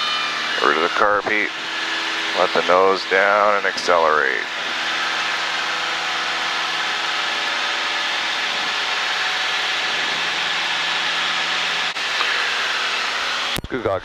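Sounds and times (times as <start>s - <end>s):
aircraft engine and propeller: 0.0s - 14.0s.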